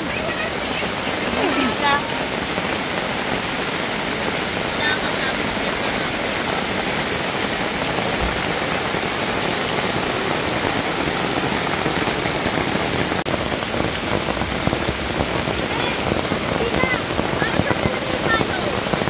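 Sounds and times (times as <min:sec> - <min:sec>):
heavy rain on a tarp: 0:00.0 - 0:19.0.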